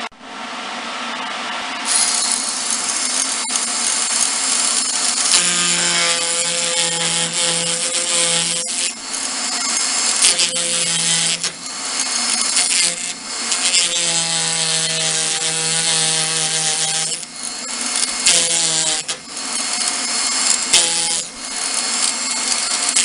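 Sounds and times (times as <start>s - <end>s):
chisel rasping wood: 1.9s - 23.0s
power carver buzzing: 1.9s - 23.0s.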